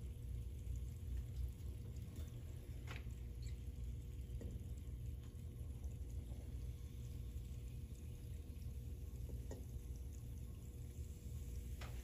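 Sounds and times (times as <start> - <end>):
low room hum: 0.0 - 12.0
vinegar pouring: 0.0 - 12.0.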